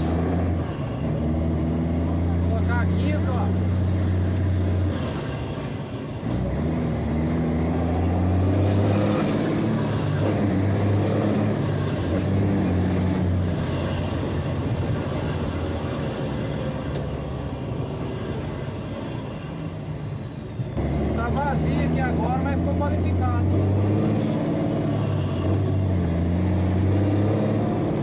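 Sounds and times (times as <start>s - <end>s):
diesel truck engine pulling: 0.0s - 28.0s.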